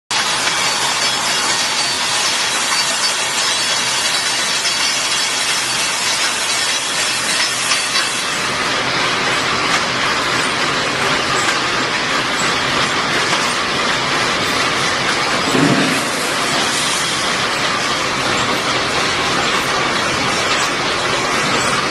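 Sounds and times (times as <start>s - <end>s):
wire mesh machine clattering: 0.2s - 21.9s.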